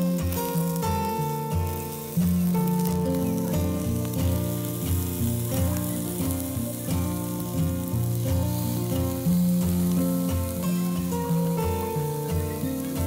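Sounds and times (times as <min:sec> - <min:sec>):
background music: 0:00.0 - 0:13.0
skewers sizzling on grill: 0:00.0 - 0:13.0.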